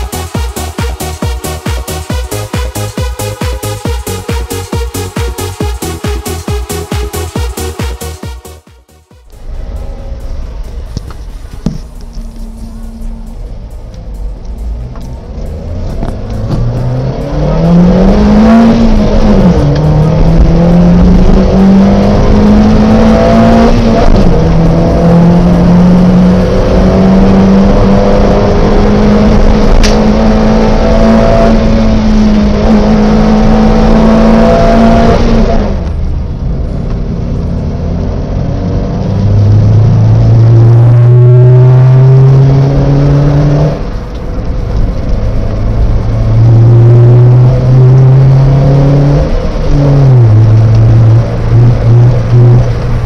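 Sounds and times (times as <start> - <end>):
car engine revving through gears: 9.2 - 53.0.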